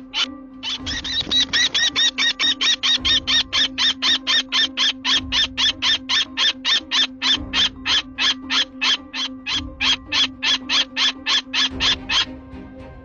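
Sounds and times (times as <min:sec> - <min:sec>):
bird of prey calling: 0:00.0 - 0:12.4.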